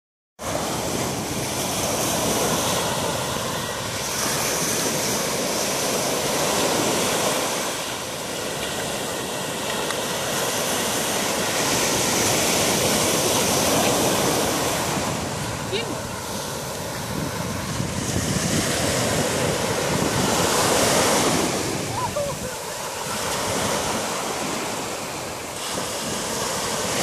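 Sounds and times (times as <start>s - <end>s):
surf breaking on a sandy beach: 0.4s - 27.0s.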